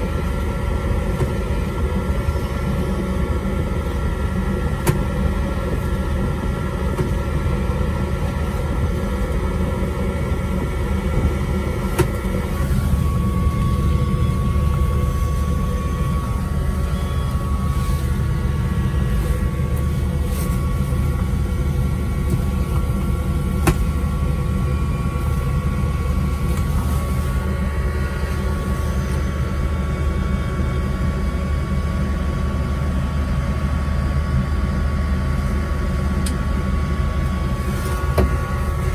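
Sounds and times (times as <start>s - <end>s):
truck machinery drone: 0.0s - 38.9s.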